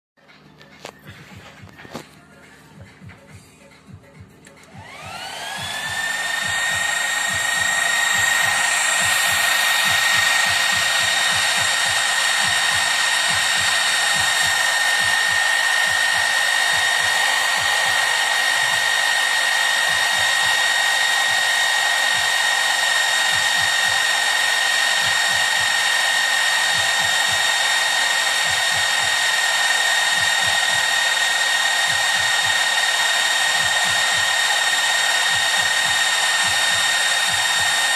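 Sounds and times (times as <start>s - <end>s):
cooling fans whining: 0.3s - 37.9s.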